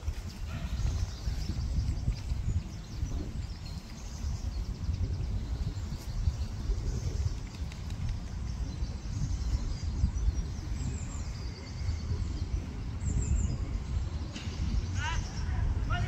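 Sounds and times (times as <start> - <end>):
low rumble on microphone: 0.0 - 16.0
small birds chirping: 0.0 - 16.0.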